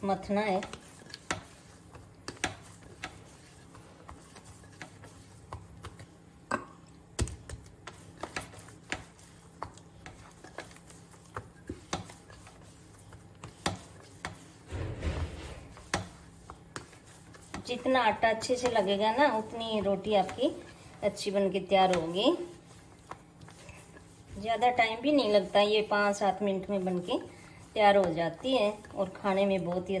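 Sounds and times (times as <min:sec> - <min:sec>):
fingers kneading dough in steel bowl: 0:00.0 - 0:30.0.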